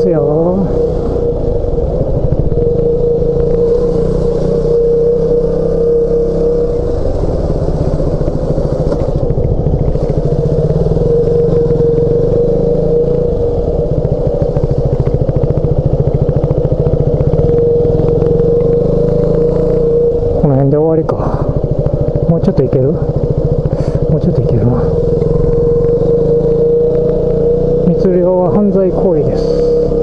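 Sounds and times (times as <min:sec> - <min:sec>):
motorcycle engine running steadily: 0:00.0 - 0:30.0.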